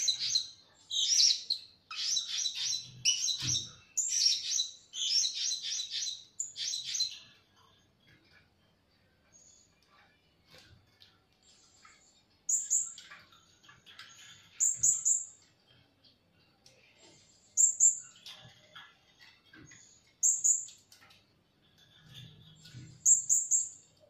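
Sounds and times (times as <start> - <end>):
soft scratchy twittering: 0.0 - 24.0.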